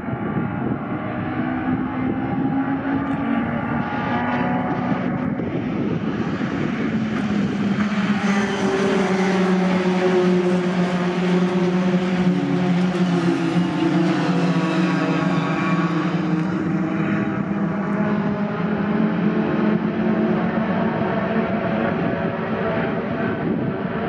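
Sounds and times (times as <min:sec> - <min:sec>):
racing truck engines droning: 0:00.0 - 0:24.0.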